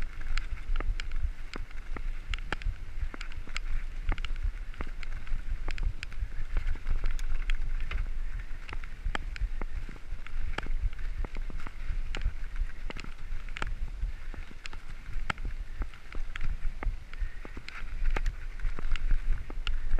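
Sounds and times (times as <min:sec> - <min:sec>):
bike clicking and rattling: 0:00.0 - 0:19.9
wind rumble on microphone: 0:00.0 - 0:19.9.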